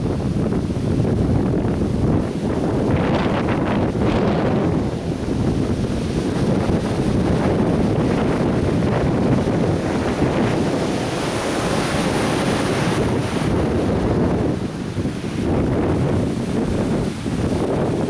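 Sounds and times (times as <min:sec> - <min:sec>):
surf breaking on a beach: 0:00.0 - 0:18.0
wind rumbling on microphone: 0:00.0 - 0:18.0.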